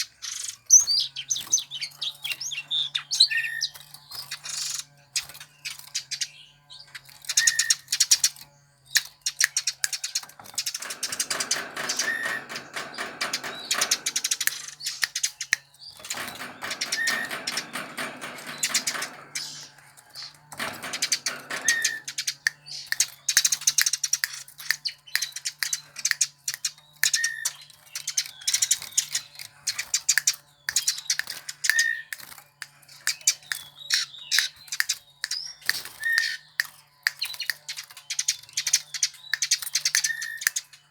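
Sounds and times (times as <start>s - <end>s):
sparrow chirping and chattering: 0.0s - 40.9s.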